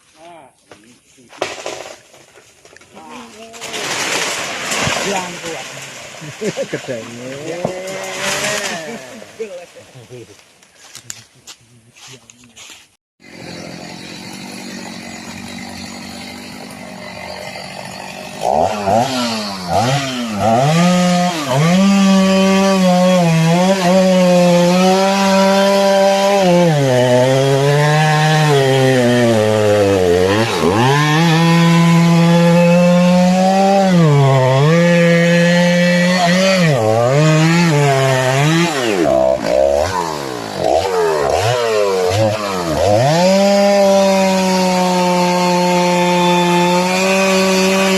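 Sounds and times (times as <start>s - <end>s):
chainsaw cutting wood: 1.4s - 2.4s, 3.0s - 6.5s, 7.2s - 9.5s, 13.2s - 47.9s.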